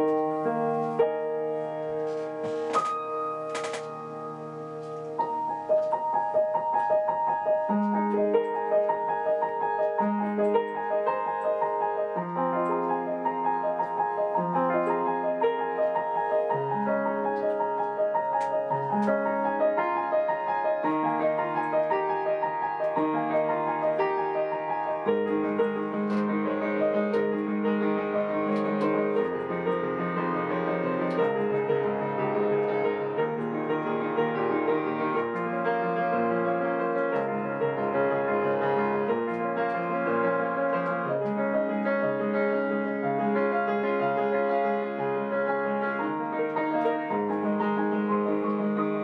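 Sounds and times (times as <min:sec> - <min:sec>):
solo upright piano: 0:00.0 - 0:49.0.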